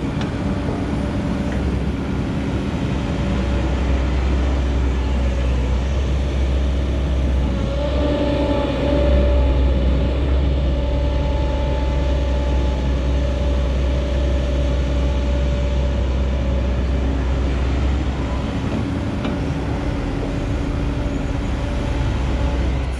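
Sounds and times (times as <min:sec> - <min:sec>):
diesel machinery engine drone: 0:00.0 - 0:22.9
machinery whine: 0:00.0 - 0:22.9.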